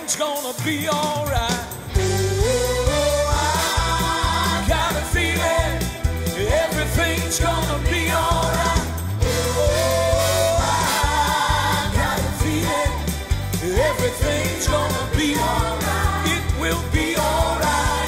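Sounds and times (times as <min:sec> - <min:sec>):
gospel band playing: 0:00.0 - 0:18.0
singers' voices: 0:00.0 - 0:18.0
steady drum beat: 0:00.0 - 0:18.0
bass: 0:00.6 - 0:18.0.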